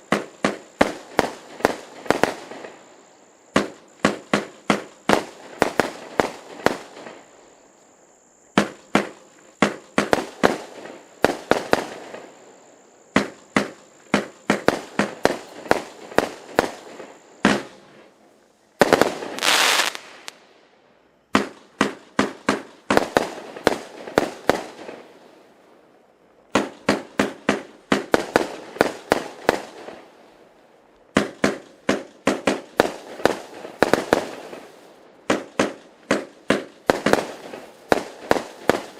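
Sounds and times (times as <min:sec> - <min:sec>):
fireworks bangs: 0:00.0 - 0:07.6, 0:08.5 - 0:18.2, 0:18.8 - 0:20.5, 0:21.3 - 0:25.5, 0:26.5 - 0:30.4, 0:31.1 - 0:38.9
loud hissing crackle: 0:00.0 - 0:38.9.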